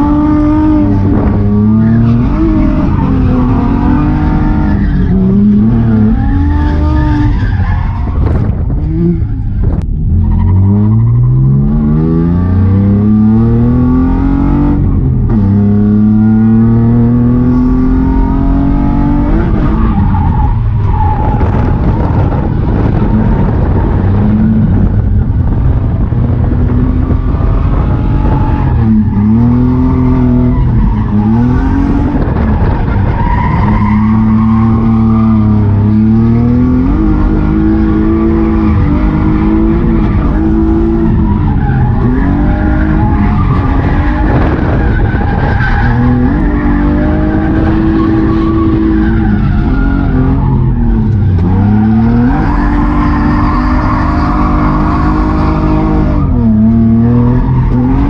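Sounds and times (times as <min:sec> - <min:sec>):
car engine revving hard: 0:00.0 - 0:07.4, 0:10.4 - 0:19.8, 0:21.4 - 0:58.0.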